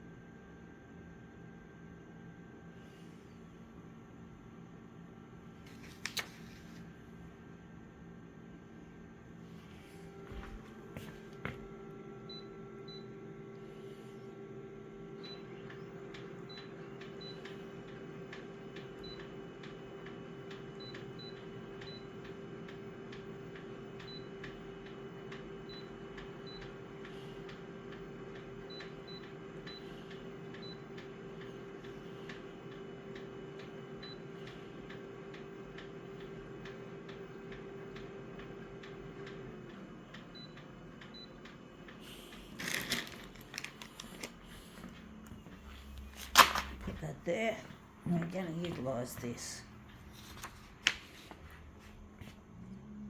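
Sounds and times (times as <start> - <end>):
photocopier humming: 2.7 - 7.8, 8.6 - 39.9, 41.7 - 53.0.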